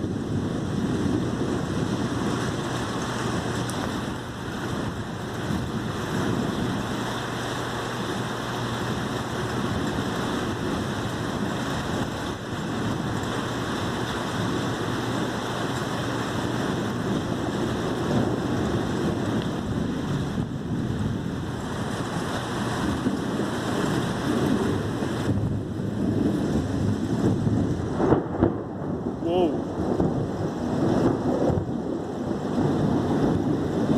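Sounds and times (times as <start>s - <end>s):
heavy rain: 0.0s - 33.9s
wind: 0.0s - 33.9s
wind buffeting microphone: 0.0s - 33.9s.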